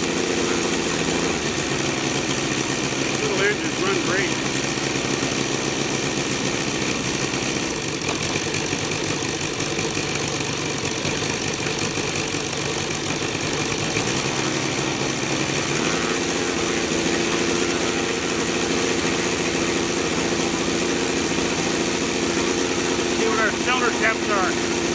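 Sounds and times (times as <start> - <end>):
model radial engine running: 0.0 - 24.9.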